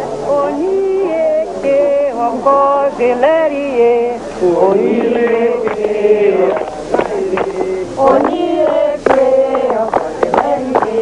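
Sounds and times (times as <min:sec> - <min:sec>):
chanted singing: 0:00.0 - 0:11.0.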